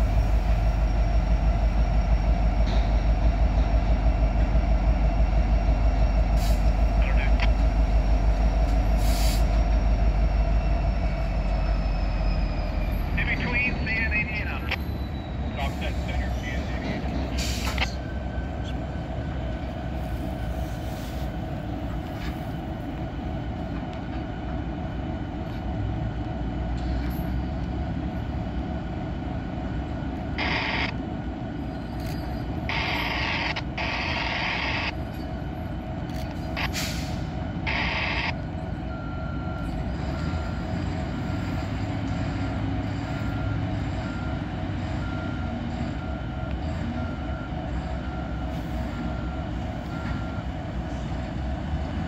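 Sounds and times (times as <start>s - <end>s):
freight train rumbling: 0.0s - 52.0s.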